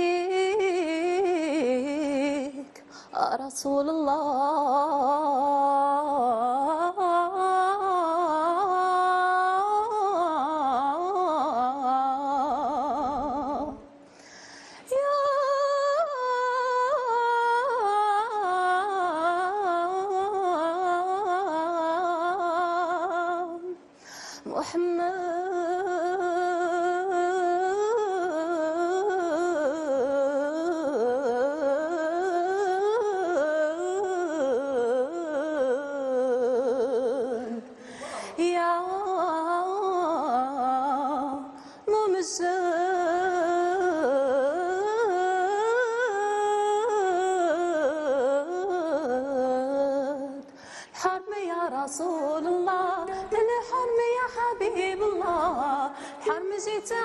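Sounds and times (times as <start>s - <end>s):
woman singing: 0.0s - 14.0s, 14.9s - 57.0s.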